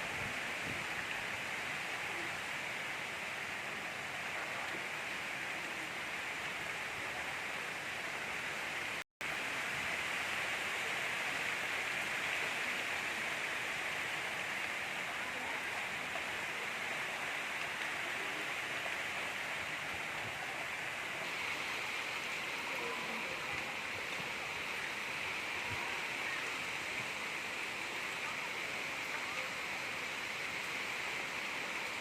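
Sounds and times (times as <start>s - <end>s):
gentle rain hissing: 0.0s - 32.0s.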